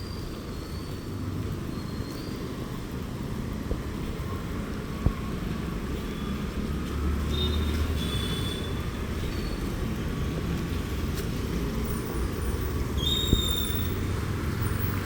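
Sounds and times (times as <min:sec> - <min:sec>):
road traffic rumble: 0:00.1 - 0:15.0.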